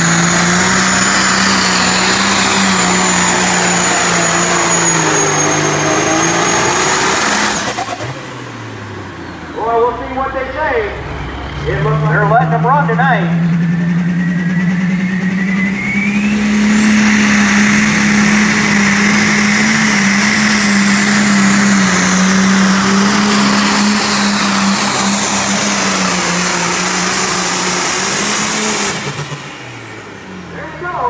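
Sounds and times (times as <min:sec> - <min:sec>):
high engine whine: 0:00.0 - 0:31.0
tractor diesel engine at full throttle: 0:00.0 - 0:31.0.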